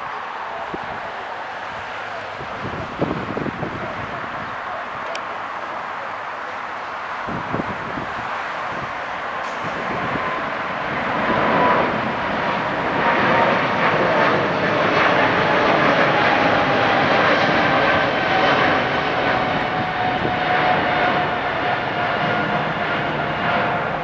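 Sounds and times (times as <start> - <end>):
jet engines at takeoff thrust: 0.0 - 24.0.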